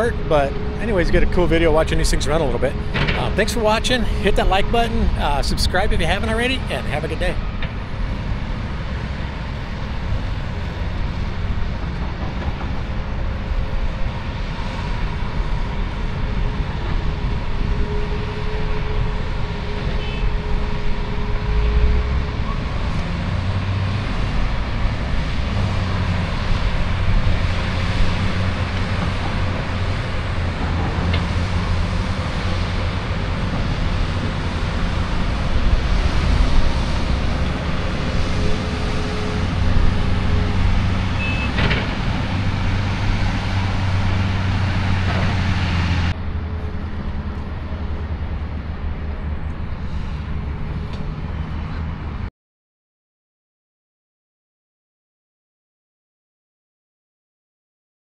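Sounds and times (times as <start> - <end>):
distant diesel engines rumbling: 0.0 - 52.3.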